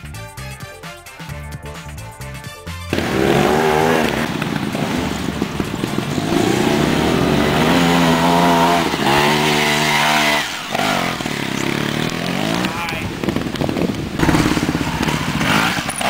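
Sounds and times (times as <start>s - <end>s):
motorcycle engine revving: 2.9s - 16.0s.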